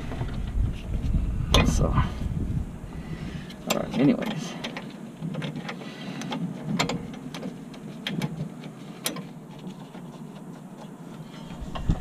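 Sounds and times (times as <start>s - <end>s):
low rumbling handling noise: 0.0s - 12.0s.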